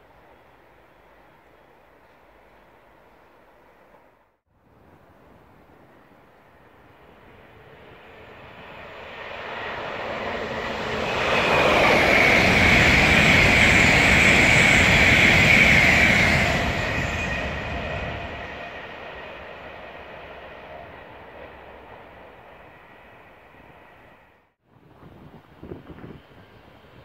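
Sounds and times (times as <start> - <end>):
high-speed train passing: 0.0 - 27.0.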